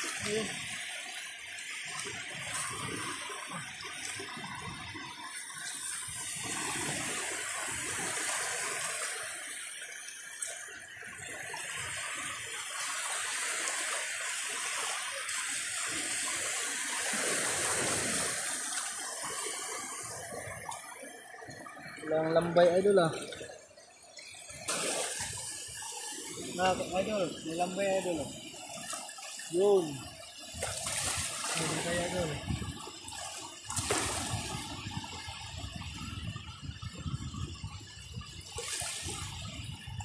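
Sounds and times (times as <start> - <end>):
seawater sloshing and splashing: 0.0 - 36.0, 38.4 - 40.0.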